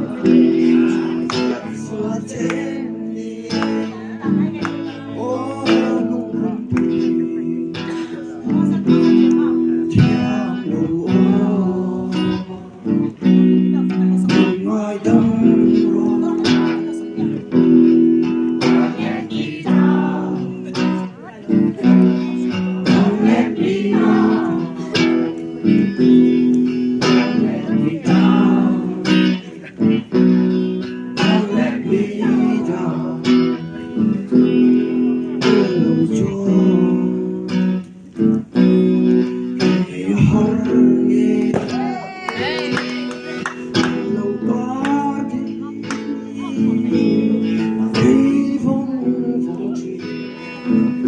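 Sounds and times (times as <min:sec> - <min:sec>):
acoustic guitar strumming: 0:00.0 - 0:51.0
person singing: 0:00.0 - 0:51.0.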